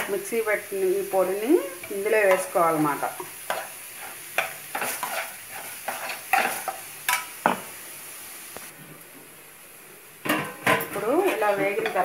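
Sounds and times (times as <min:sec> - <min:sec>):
spoon stirring and scraping in pan: 0:00.0 - 0:07.9, 0:10.2 - 0:12.0
light sizzle: 0:00.0 - 0:12.0.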